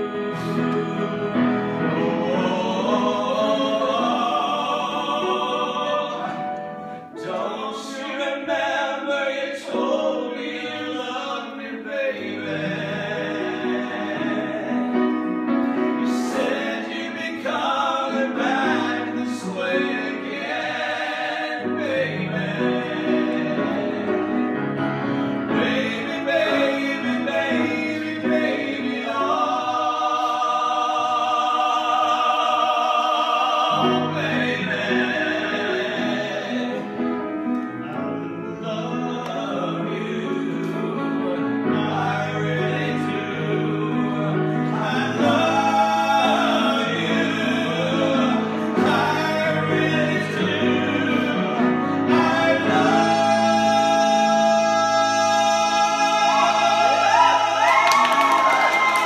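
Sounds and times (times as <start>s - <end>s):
piano accompaniment: 0.0s - 59.0s.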